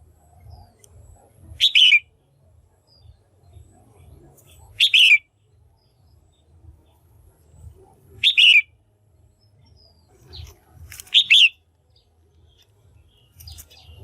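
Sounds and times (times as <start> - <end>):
bird chirping: 0.0 - 14.0
faint low rumble: 0.0 - 14.0.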